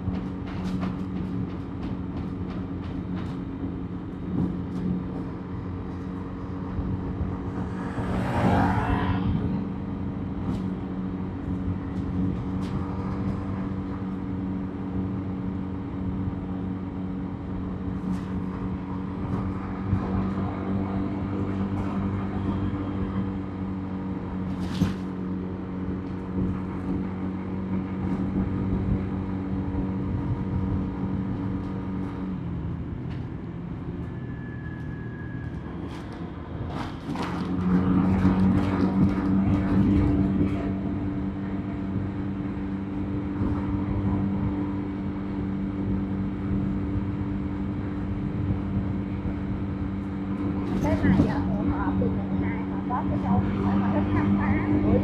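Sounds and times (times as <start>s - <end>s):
motorbike engine cruising: 0.0s - 55.0s
road and wind noise: 0.0s - 55.0s.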